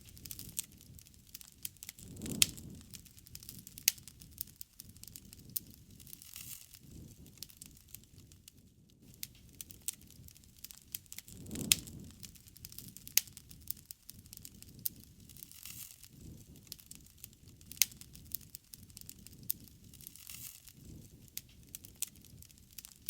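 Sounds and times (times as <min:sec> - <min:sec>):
low rush of flames: 0:00.0 - 0:23.0
sharp pops from fire: 0:00.0 - 0:23.0
wood fire crackling: 0:00.0 - 0:23.0.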